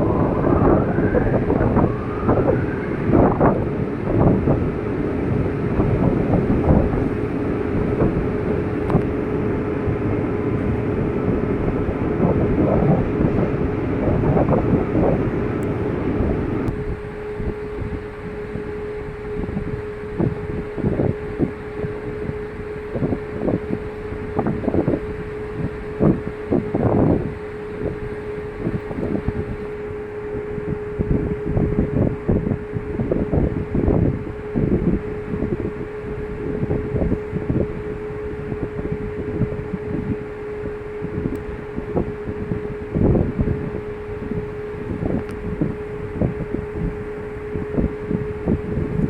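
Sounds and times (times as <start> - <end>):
steady mechanical hum: 0.0 - 49.0
wind buffeting microphone: 0.0 - 49.0.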